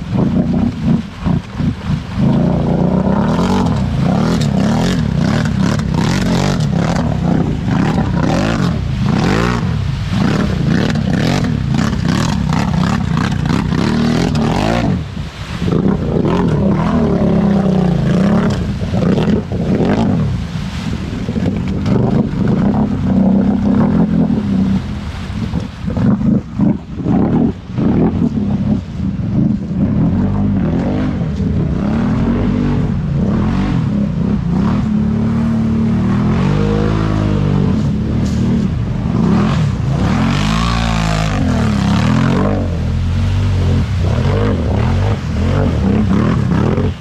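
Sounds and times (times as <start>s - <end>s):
atv engine revving hard: 0.0s - 47.0s
wheels churning mud: 0.0s - 47.0s.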